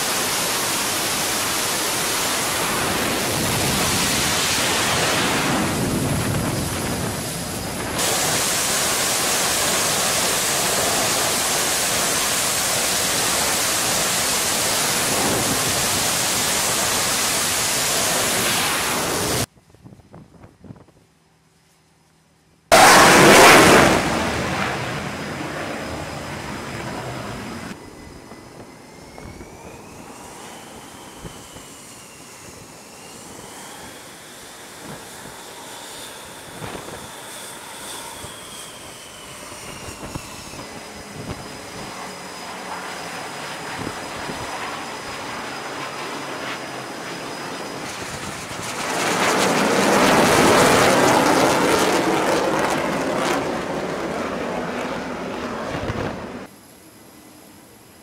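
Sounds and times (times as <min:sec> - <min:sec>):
high jet whine: 0:00.0 - 0:19.5, 0:22.7 - 0:58.0
jet engines passing overhead: 0:00.0 - 0:21.6, 0:22.3 - 0:58.0.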